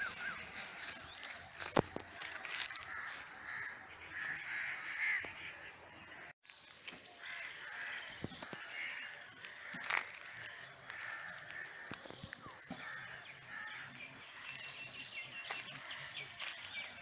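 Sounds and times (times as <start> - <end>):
birds making harsh calls: 0.0 - 17.0.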